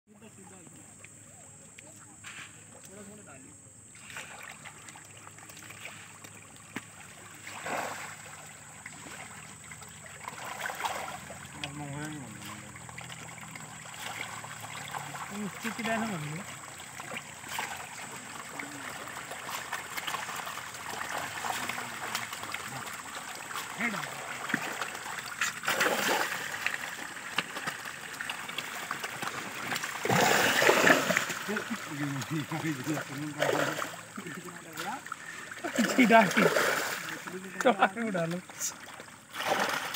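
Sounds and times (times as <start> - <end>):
fish splashing at water surface: 3.9 - 39.9.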